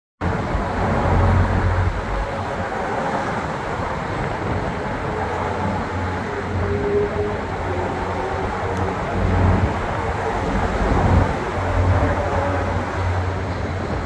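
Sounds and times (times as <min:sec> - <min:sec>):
low vehicle rumble: 0:00.2 - 0:14.0.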